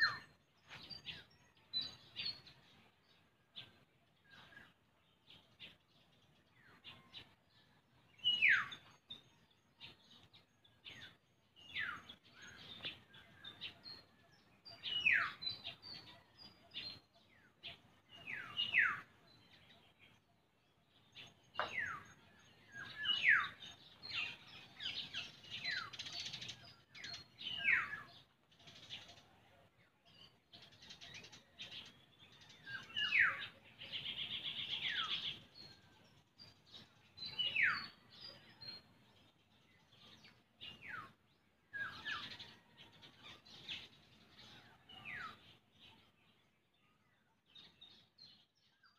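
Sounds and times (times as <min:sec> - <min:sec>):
bird chirps: 0:00.0 - 0:48.9.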